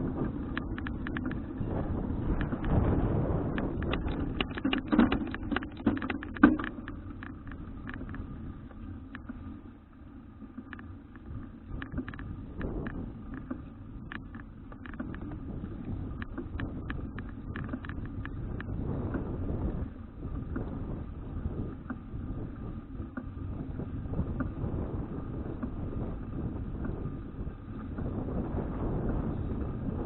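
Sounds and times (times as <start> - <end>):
wind on microphone: 0.0 - 9.6, 10.6 - 30.0
bike clicks and rattles: 0.0 - 30.0.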